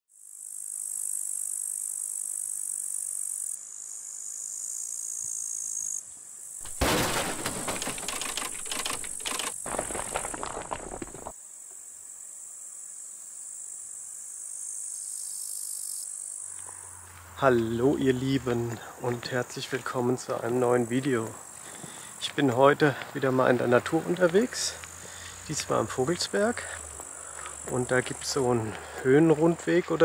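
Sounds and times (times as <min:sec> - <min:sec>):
insects chirring: 0:00.2 - 0:30.0.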